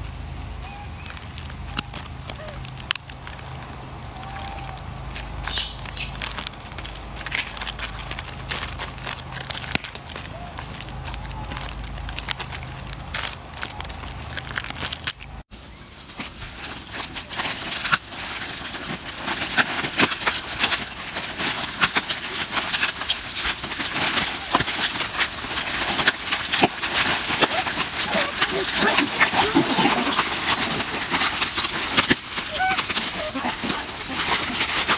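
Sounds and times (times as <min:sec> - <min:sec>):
plastic wrappers crinkling: 0:00.0 - 0:34.9.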